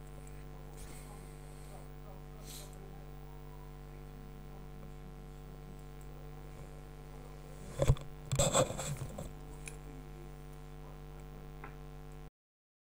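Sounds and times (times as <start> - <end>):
mains hum: 0.0 - 12.3.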